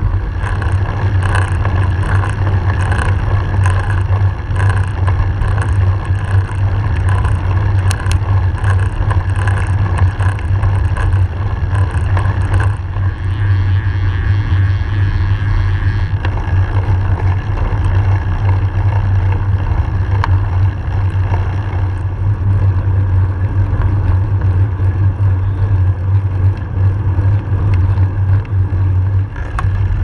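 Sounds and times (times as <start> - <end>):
tyre rumble on road: 0.0 - 30.0.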